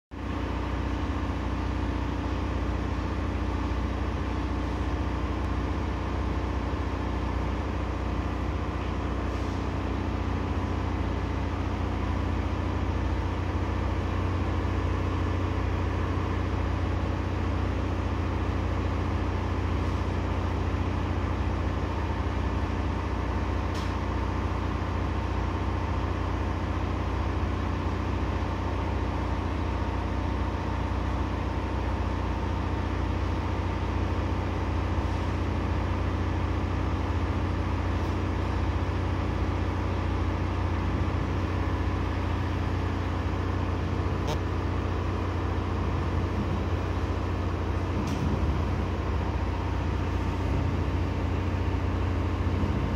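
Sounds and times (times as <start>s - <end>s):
low machine hum: 0.1s - 52.9s.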